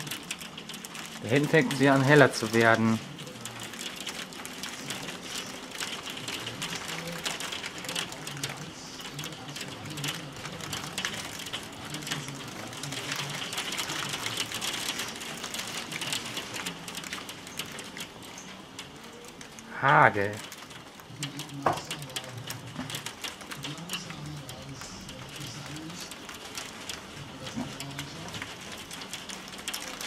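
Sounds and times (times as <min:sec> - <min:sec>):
hail pattering: 0:00.0 - 0:30.0.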